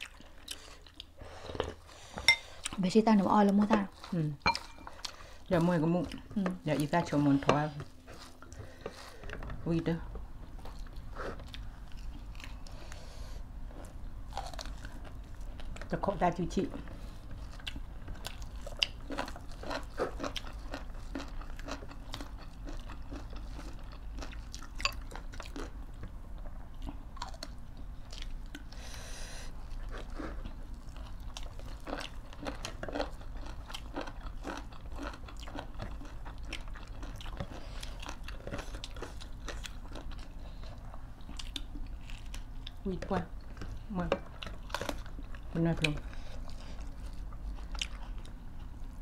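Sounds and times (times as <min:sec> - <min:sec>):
chewing and crunching food: 0:00.0 - 0:49.0.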